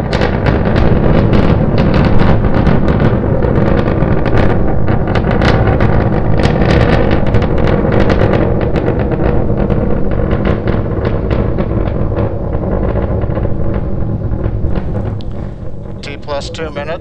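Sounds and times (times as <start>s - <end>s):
rocket engines rumbling and crackling: 0.0s - 17.0s.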